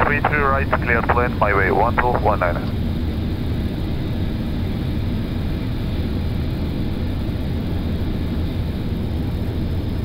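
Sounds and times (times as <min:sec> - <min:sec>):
low rumbling aircraft cockpit noise: 0:00.0 - 0:10.0.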